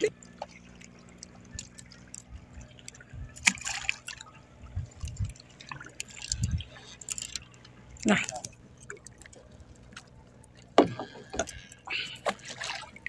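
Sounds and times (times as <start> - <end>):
water dripping and splashing: 0.0 - 13.0.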